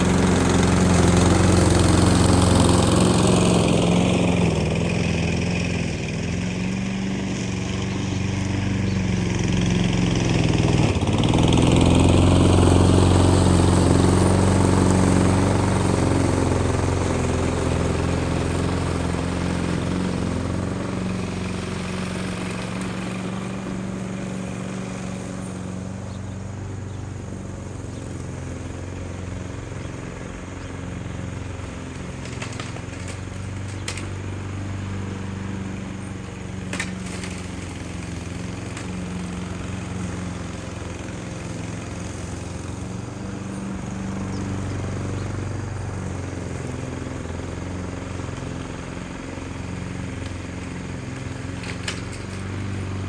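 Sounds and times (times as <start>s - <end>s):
grass cutter engine running: 0.0s - 53.0s.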